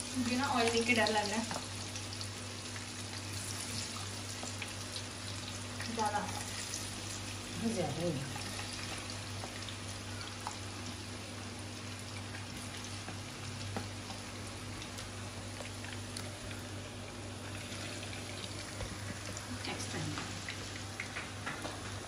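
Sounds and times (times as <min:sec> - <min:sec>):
low steady hum: 0:00.0 - 0:22.0
oil sizzling with pops: 0:00.0 - 0:22.0.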